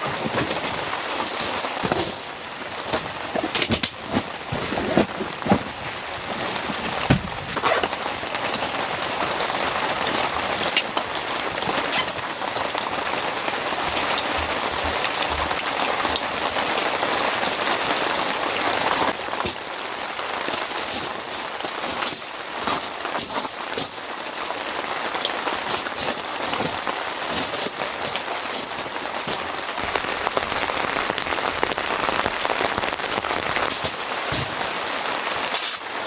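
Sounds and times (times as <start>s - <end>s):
rain pattering: 0.0s - 36.0s.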